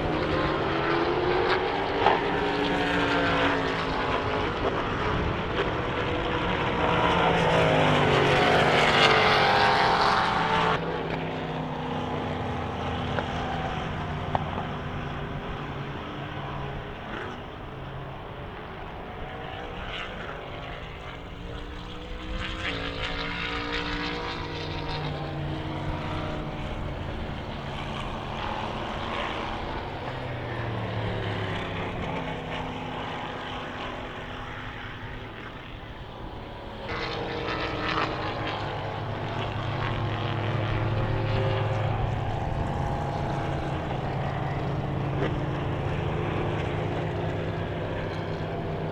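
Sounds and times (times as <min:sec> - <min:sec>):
race cars passing at speed: 0:00.0 - 0:48.9.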